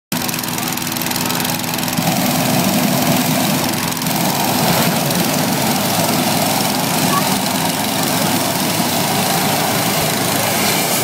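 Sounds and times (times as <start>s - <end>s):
inflator fan engine running: 0.1s - 11.0s
propane burner roaring: 0.1s - 11.0s.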